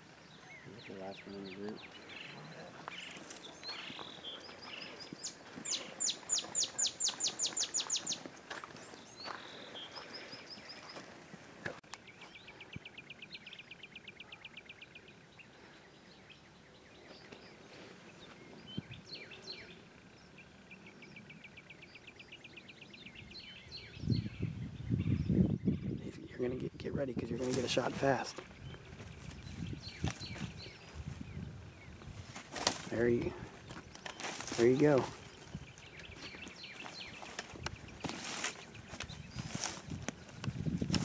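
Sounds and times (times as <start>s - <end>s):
songbird down-slurred notes: 0.0s - 40.9s.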